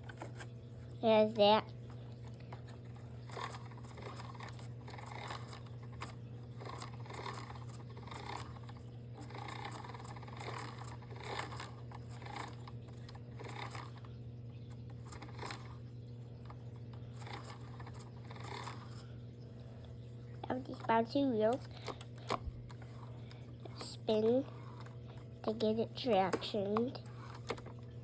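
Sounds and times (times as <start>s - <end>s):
small plastic clicks and scrapes: 0.0s - 0.6s, 2.2s - 19.1s, 20.4s - 28.0s
steady low hum: 0.0s - 28.0s.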